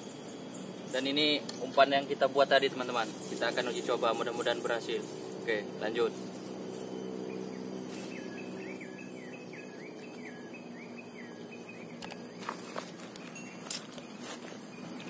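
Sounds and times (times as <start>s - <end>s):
insect drone: 0.0s - 15.0s
low steady hum: 0.0s - 15.0s.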